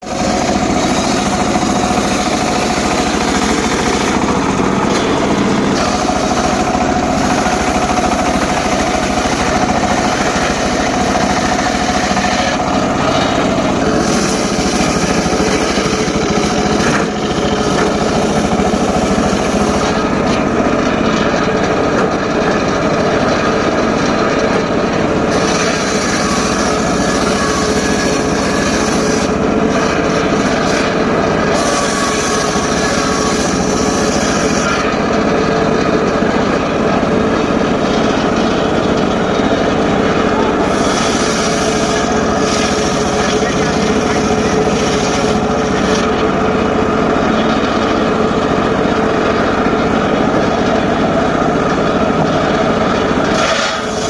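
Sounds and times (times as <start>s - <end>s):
circular saw cutting wood: 0.0s - 54.0s.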